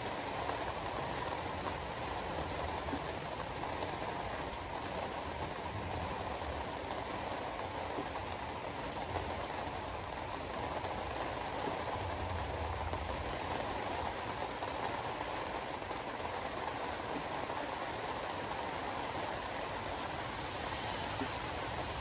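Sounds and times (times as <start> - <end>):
tyre noise on wet road: 0.0 - 22.0.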